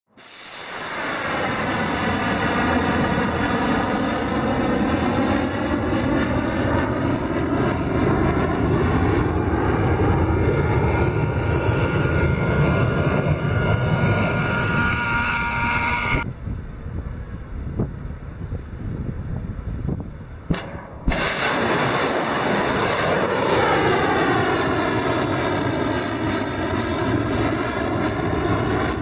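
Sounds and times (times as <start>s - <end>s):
rocket motor roaring: 0.2s - 16.3s, 20.5s - 29.0s.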